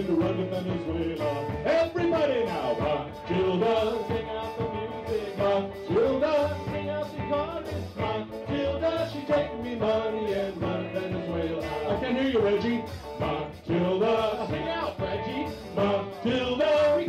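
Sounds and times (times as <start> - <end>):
calypso band playing: 0.0 - 17.0
electric guitar: 0.0 - 17.0
steady drum beat: 0.0 - 17.0.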